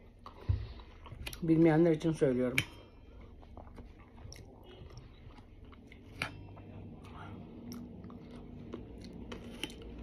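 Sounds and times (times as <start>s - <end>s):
person chewing watermelon: 0.0s - 1.5s, 3.1s - 10.0s.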